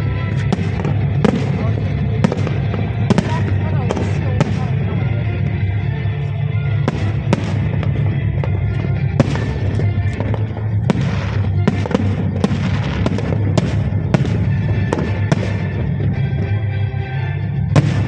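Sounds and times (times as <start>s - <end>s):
fireworks bangs: 0.0s - 5.7s, 6.7s - 16.7s, 17.5s - 18.0s
music over loudspeakers: 0.0s - 18.0s.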